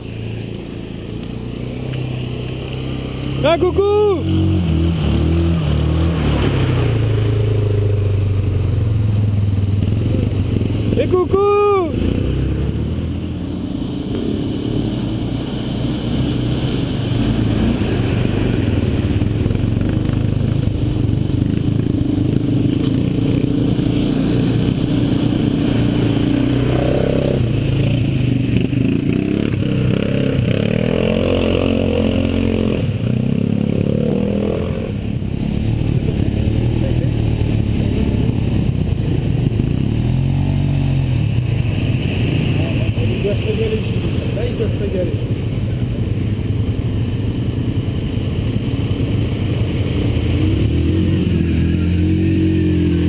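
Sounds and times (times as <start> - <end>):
quad bike engine revving: 0.0 - 45.4, 47.8 - 53.0.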